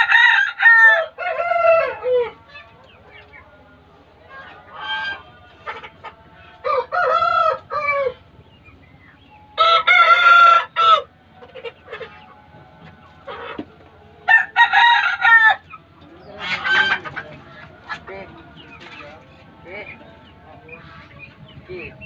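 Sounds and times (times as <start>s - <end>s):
roosters crowing: 0.0s - 22.0s.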